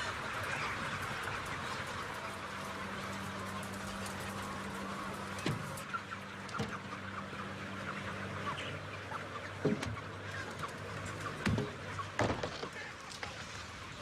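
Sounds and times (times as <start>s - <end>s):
chickens chirping: 0.0s - 14.0s
low mechanical hum: 0.0s - 14.0s.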